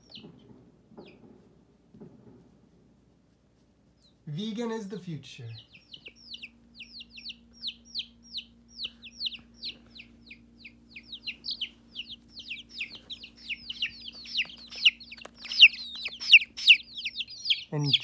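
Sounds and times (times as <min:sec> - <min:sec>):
chicks peeping: 0:00.0 - 0:02.4, 0:03.9 - 0:18.0
faint low hum: 0:00.0 - 0:18.0.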